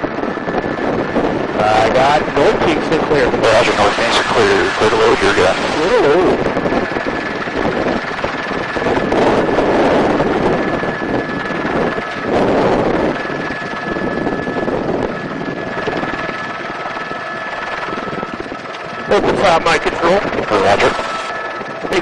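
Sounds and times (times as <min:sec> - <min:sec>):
helicopter rotor and engine noise: 0:00.0 - 0:22.0
high whine: 0:00.0 - 0:22.0
wind buffeting microphone: 0:00.0 - 0:22.0.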